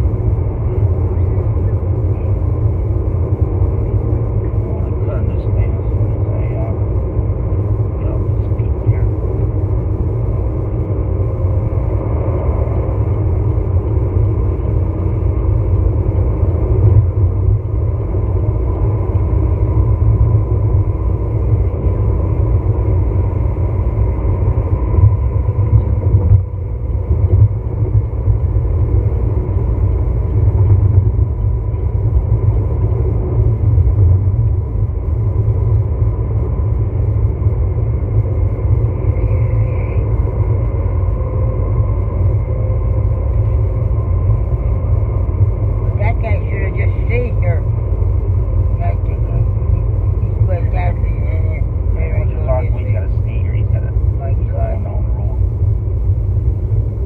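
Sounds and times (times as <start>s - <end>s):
vehicle tyre and engine rumble: 0.0s - 57.0s.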